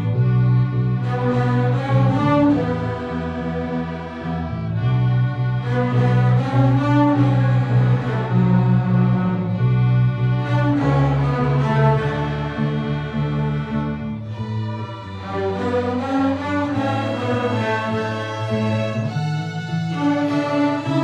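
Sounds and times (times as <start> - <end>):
cello line: 0.0 - 21.0
string orchestra playing: 0.0 - 21.0.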